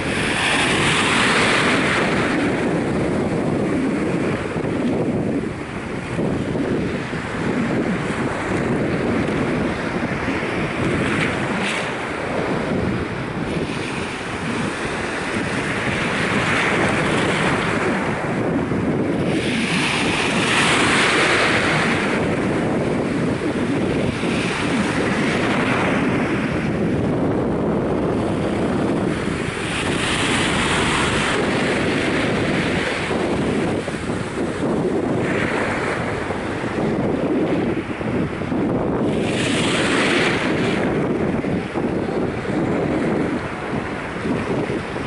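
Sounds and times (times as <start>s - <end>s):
small waves washing on sand: 0.0s - 45.0s
wind buffeting microphone: 0.0s - 45.0s.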